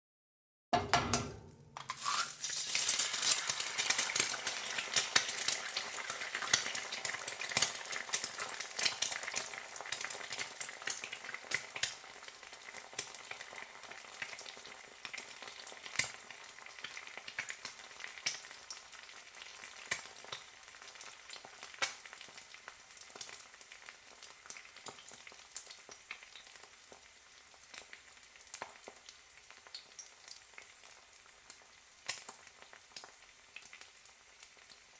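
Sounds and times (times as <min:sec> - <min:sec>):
egg sizzling in a hot pan: 0:01.8 - 0:34.9.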